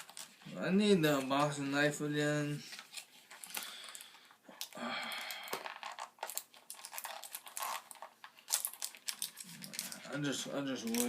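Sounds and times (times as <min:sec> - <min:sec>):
plastic packaging crinkling: 0:00.0 - 0:01.3, 0:02.6 - 0:11.0.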